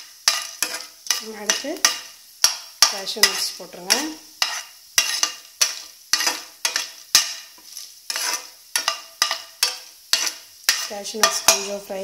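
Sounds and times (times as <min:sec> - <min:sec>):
soft sizzle of frying: 0:00.0 - 0:12.0
utensil scraping metal pan: 0:00.0 - 0:12.0.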